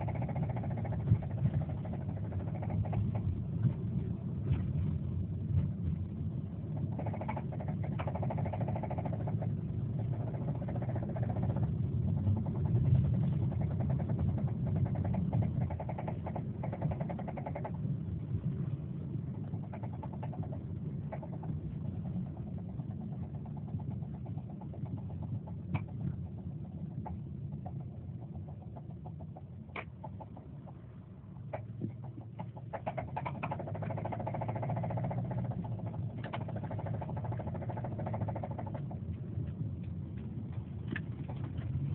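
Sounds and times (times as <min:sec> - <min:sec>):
rapid engine knocking: 0:00.0 - 0:03.8, 0:06.7 - 0:17.8, 0:19.4 - 0:30.8, 0:31.5 - 0:39.1.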